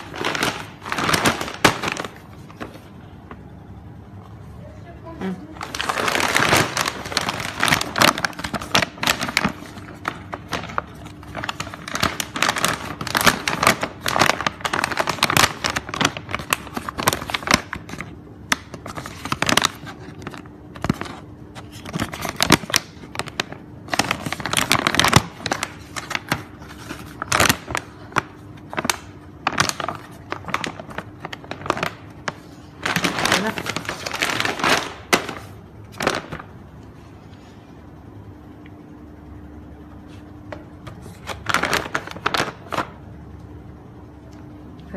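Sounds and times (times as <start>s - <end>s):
plastic bag crinkling: 0.0s - 4.2s, 5.0s - 36.8s, 40.9s - 43.0s
faint steady hum: 0.0s - 44.9s.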